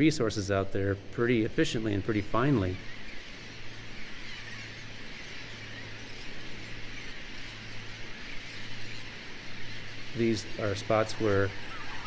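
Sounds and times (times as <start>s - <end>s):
distant shorebirds and gulls calling: 0.0s - 12.0s.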